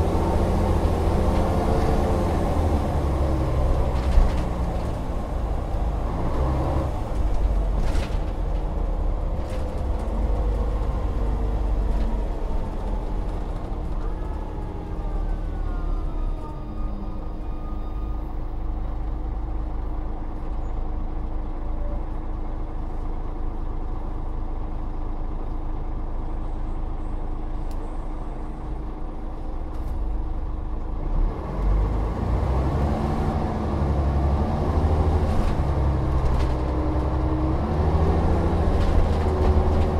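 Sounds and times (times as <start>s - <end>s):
bus engine running: 0.0s - 39.9s
constant engine whine: 0.0s - 39.9s.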